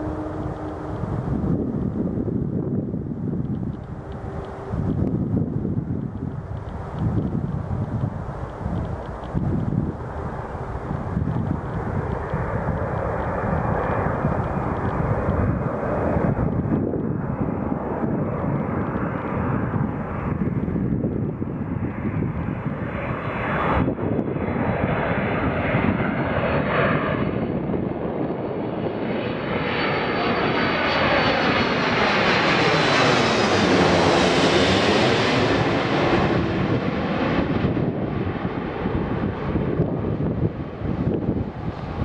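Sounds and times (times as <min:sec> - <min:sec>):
jet engines whining overhead: 0:00.0 - 0:42.0.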